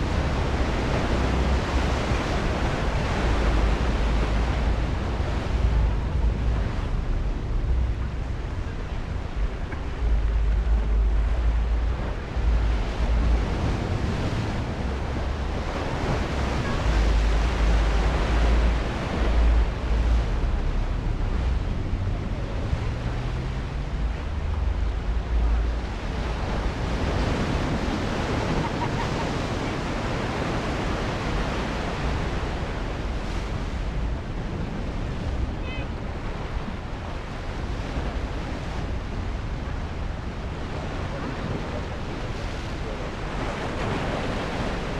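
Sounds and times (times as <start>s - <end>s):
surf washing over rocks: 0.0s - 44.9s
wind buffeting microphone: 0.0s - 44.9s.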